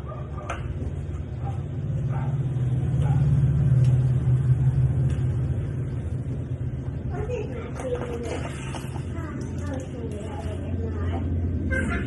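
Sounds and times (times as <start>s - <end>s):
passing vehicle rumble: 0.8s - 11.8s.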